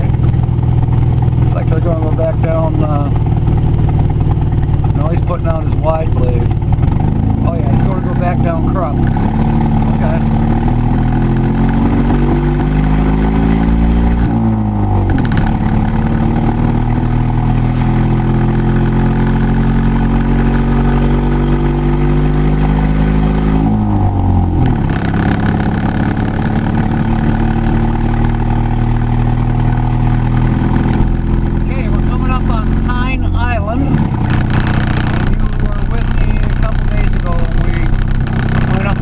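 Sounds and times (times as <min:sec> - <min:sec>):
vehicle engine accelerating: 0:00.0 - 0:39.0.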